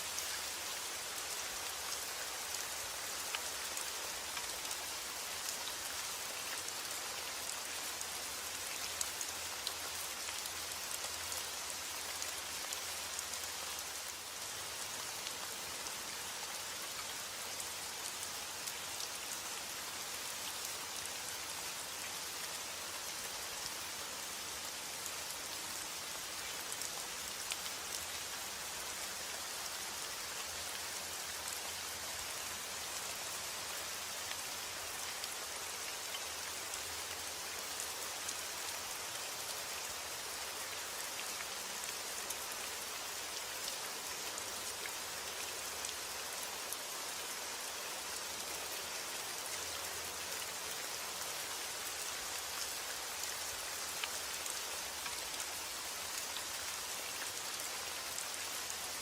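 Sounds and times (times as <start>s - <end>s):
faint ticks of raindrops: 0.0s - 59.0s
steady rain hiss: 0.0s - 59.0s.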